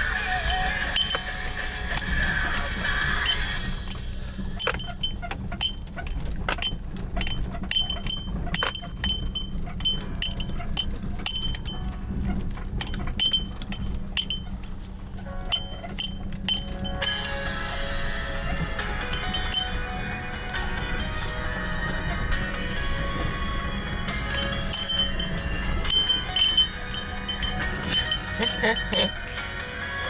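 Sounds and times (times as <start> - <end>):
small bells ringing: 0.0 - 30.0.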